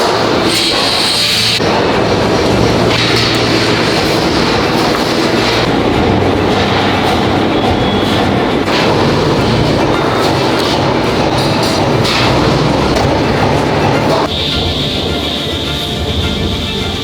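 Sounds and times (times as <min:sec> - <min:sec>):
rattling factory machinery: 0:00.0 - 0:17.0.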